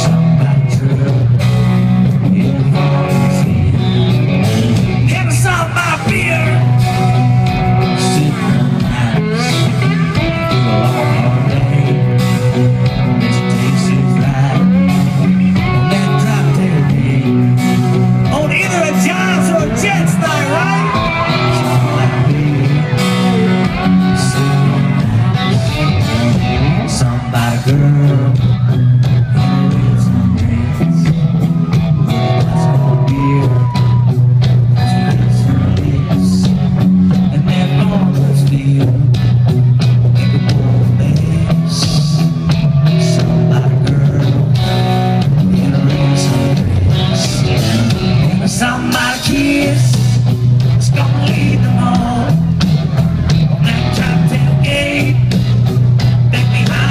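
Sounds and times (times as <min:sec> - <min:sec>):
man singing: 0:00.0 - 0:52.6, 0:53.6 - 0:56.9
rock band playing live: 0:00.0 - 0:56.9.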